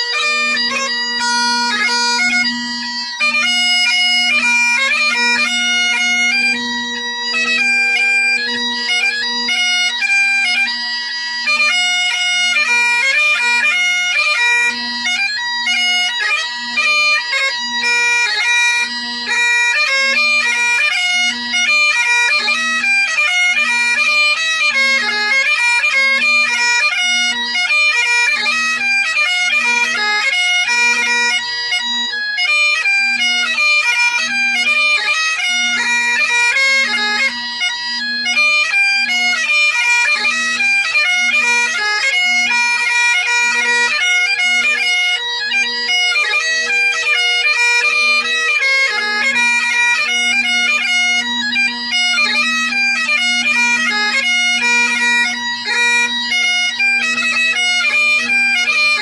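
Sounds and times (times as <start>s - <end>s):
solo bagpipe: 0.0s - 59.0s.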